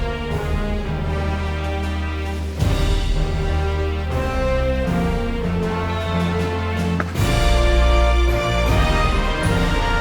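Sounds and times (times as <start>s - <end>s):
music with sustained chords: 0.0s - 10.0s.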